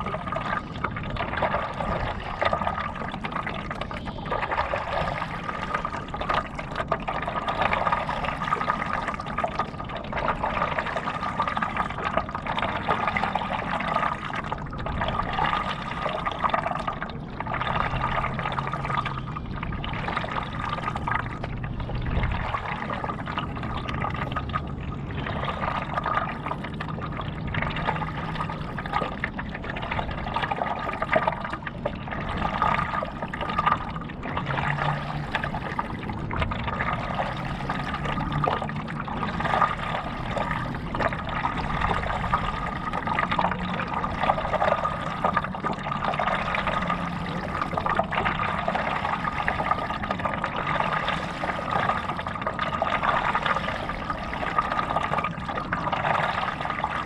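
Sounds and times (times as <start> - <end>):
paddle splashing water: 0.0 - 57.0.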